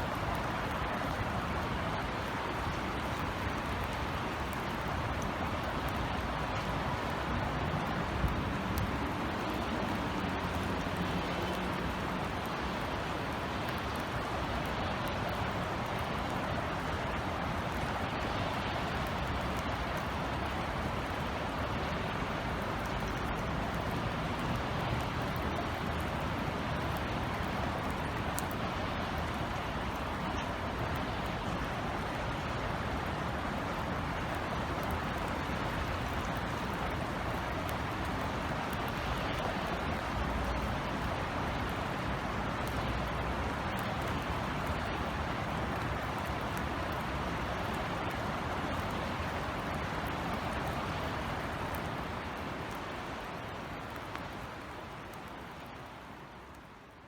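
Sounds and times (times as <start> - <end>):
low city rumble: 0.0 - 55.4
steady rain falling: 0.0 - 57.0.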